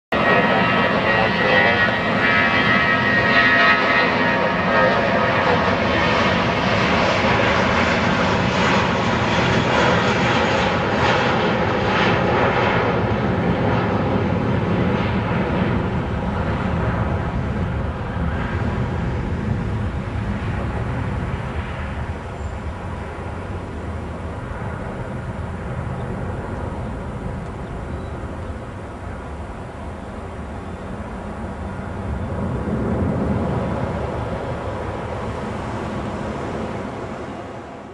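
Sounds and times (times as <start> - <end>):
jet engines at takeoff: 0.1 - 37.9.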